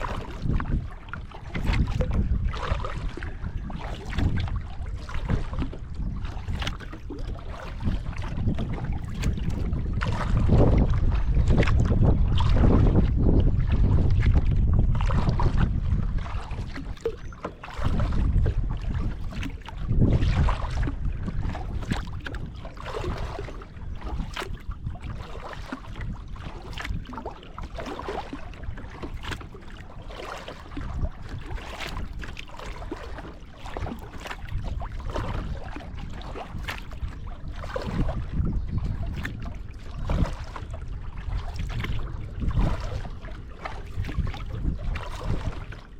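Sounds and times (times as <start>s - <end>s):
paddle splashing water: 0.0s - 45.9s
wind buffeting microphone: 0.0s - 45.9s.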